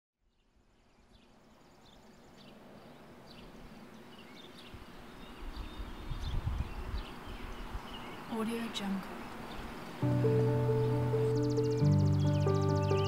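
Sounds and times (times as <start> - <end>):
outdoor background noise: 0.2 - 13.0
birds chirping: 0.4 - 13.0.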